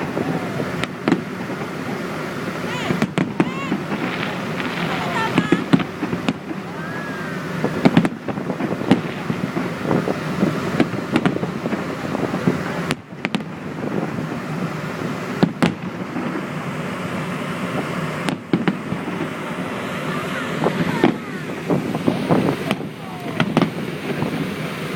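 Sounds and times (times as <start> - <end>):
background rumble: 0.0 - 24.9
fireworks bangs and crackles: 0.0 - 24.9.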